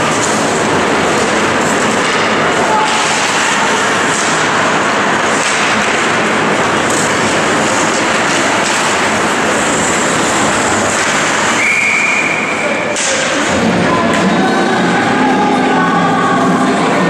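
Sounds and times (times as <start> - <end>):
ice hockey rink noise: 0.0 - 17.0.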